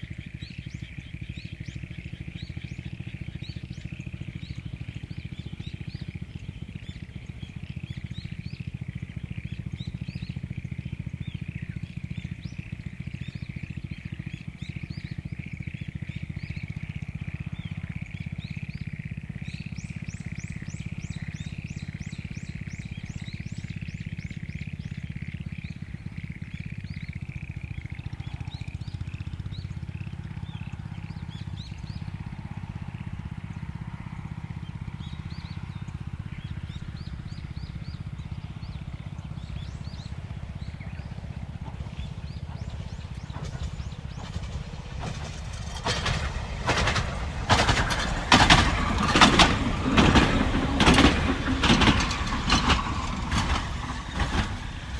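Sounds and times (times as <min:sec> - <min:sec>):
frog chorus croaking: 0:00.0 - 0:54.9.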